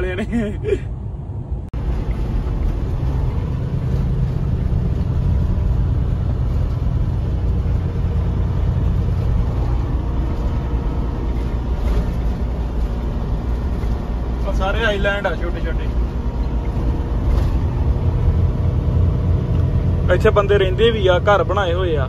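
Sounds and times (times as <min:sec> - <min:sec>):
truck engine and tyre rumble: 0:00.0 - 0:22.0.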